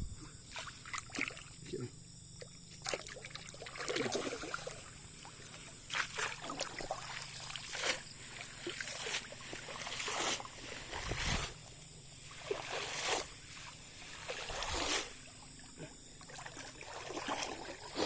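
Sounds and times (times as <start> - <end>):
water sloshing and splashing: 0.4 - 1.7, 2.3 - 18.0.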